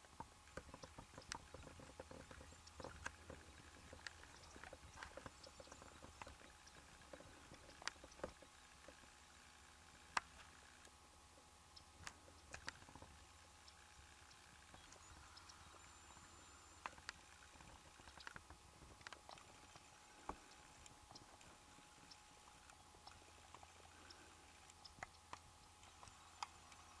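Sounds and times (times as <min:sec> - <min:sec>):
faint clicks and ticks: 0:00.0 - 0:27.0.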